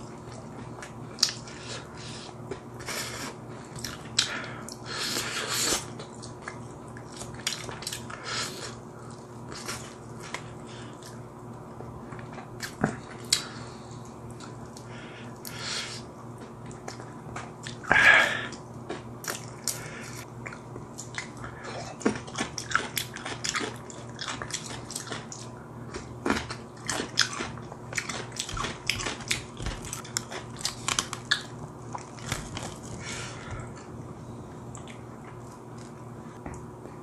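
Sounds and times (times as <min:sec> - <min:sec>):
person chewing crispy food: 0:00.0 - 0:11.2, 0:12.1 - 0:34.0, 0:34.6 - 0:37.0.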